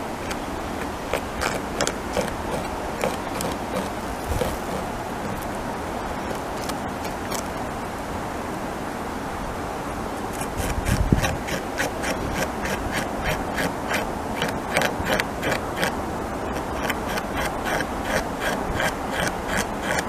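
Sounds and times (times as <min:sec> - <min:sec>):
beaver gnawing wood: 0:00.0 - 0:07.7, 0:10.3 - 0:20.0.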